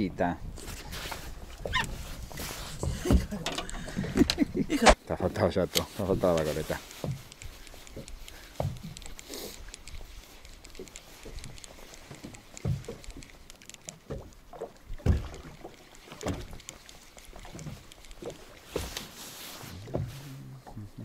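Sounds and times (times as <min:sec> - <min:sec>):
water slapping and lapping: 0:00.6 - 0:21.0.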